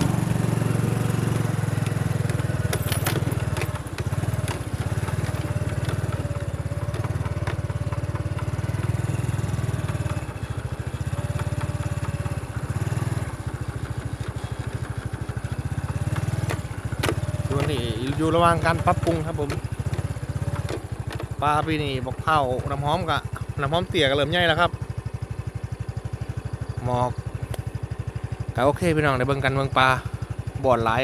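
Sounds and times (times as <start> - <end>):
small motorcycle engine: 0.0 - 31.0.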